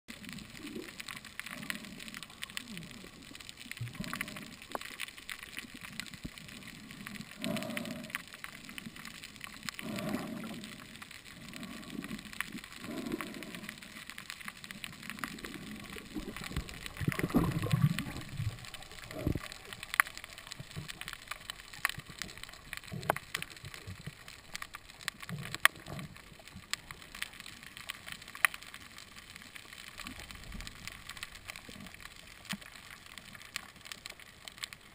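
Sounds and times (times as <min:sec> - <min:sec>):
muffled moving water: 0:00.1 - 0:34.9
underwater clicks and crackles: 0:00.1 - 0:34.9.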